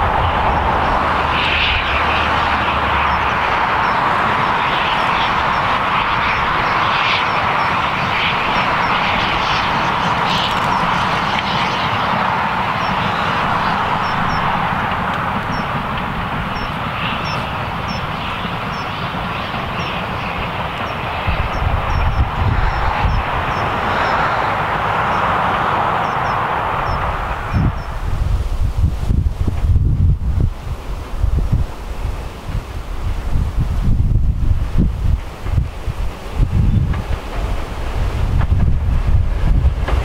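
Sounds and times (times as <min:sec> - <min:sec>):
steam locomotive rushing: 0:00.0 - 0:40.0.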